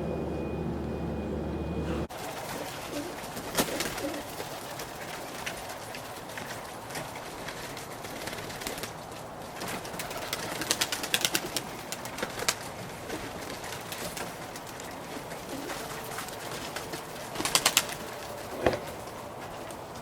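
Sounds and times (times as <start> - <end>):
pigeons cooing: 1.3 - 4.7, 6.7 - 20.0.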